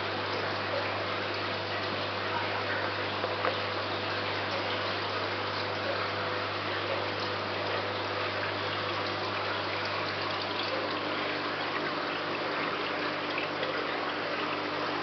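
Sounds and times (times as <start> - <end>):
pump humming: 0.0 - 15.0
water trickling: 0.0 - 15.0.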